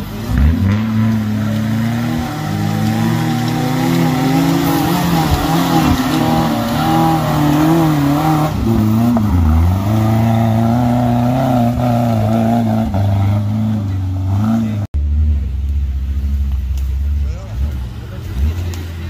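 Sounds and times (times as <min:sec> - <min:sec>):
car engine revving unevenly: 0:00.0 - 0:19.0.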